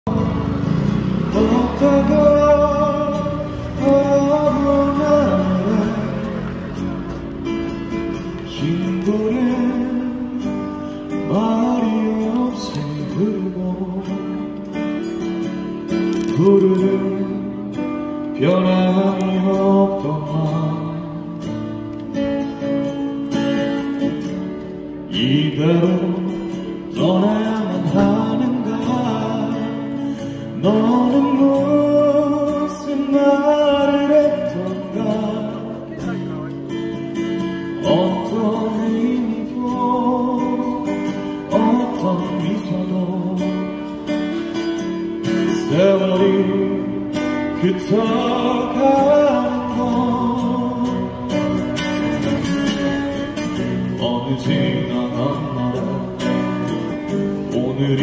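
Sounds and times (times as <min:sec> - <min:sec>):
acoustic guitar: 0:00.0 - 0:58.0
man singing a slow ballad: 0:01.2 - 0:07.1, 0:08.2 - 0:21.8, 0:25.0 - 0:52.0, 0:53.6 - 0:58.0.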